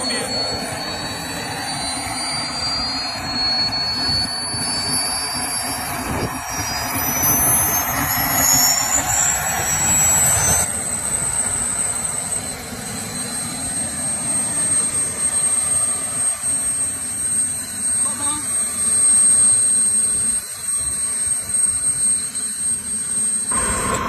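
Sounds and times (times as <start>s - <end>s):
model jet turbines whining: 0.0s - 24.0s.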